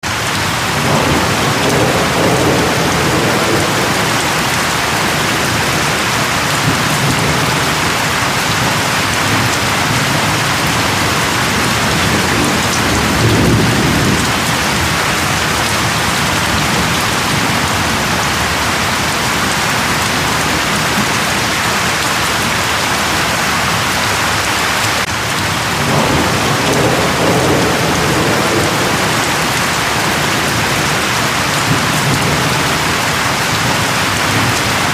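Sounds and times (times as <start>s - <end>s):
heavy rain falling: 0.0s - 34.9s
thunder rumbling: 0.1s - 23.9s, 25.0s - 34.9s.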